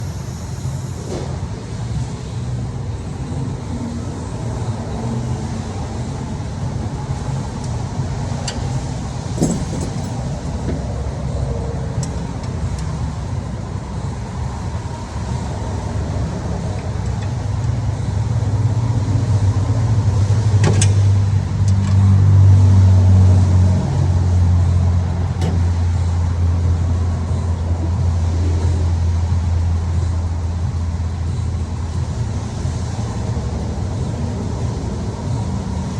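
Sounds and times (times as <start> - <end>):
car engine humming: 1.8 - 35.9.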